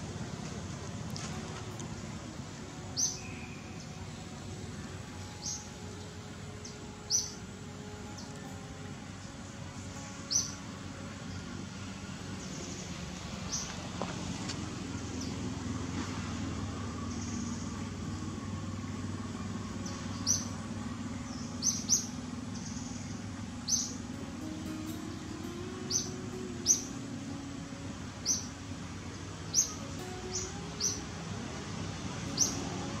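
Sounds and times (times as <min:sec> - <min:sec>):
distant traffic drone: 0:00.0 - 0:33.0.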